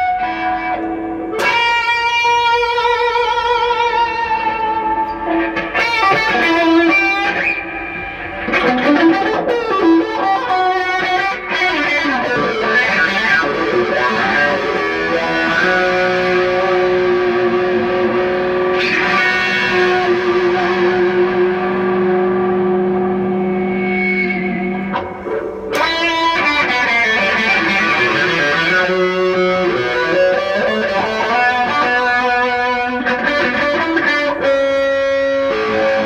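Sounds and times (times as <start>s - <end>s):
distorted electric guitar lead: 0.0s - 36.0s.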